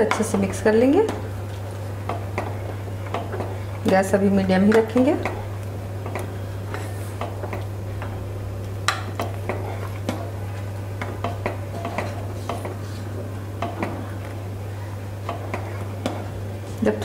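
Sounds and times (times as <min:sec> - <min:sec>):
low hum: 0:00.4 - 0:15.2.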